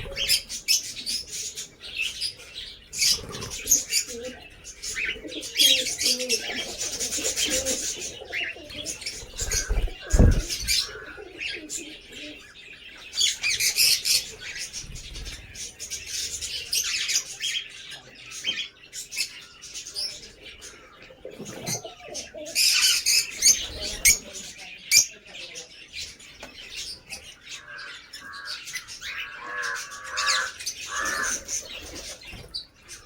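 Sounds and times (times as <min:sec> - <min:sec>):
lovebirds chirping and chattering: 0:00.0 - 0:33.0.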